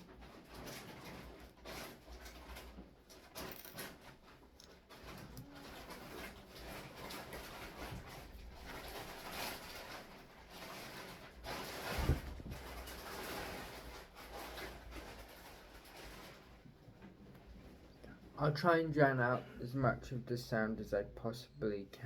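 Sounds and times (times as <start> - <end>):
rustling and knocking: 0.0 - 17.8.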